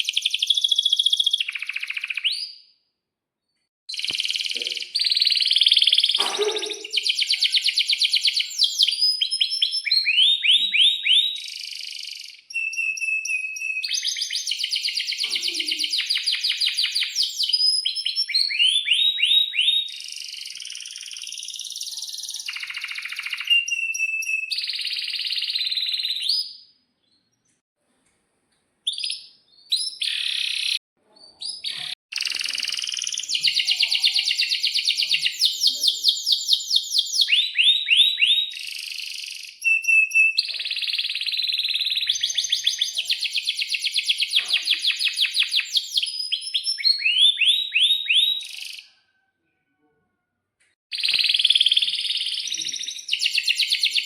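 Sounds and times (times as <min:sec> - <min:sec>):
canary singing trills: 0:03.9 - 0:27.2, 0:28.9 - 0:49.2.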